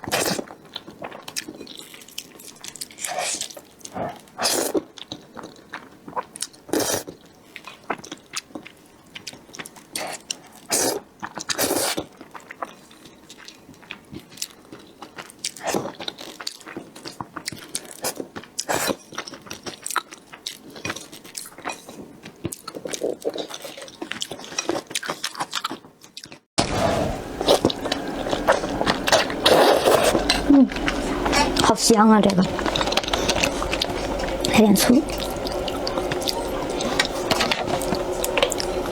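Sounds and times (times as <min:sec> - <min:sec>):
wet chewing of noodles: 0:00.0 - 0:38.9.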